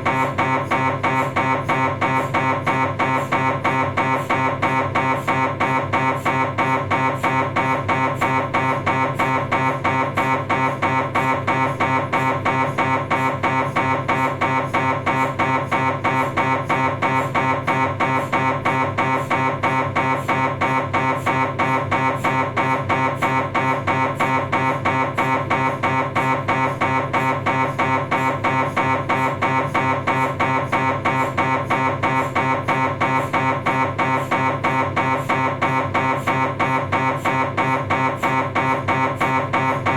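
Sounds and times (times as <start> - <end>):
mri scanner pulsing buzz: 0.0 - 39.9.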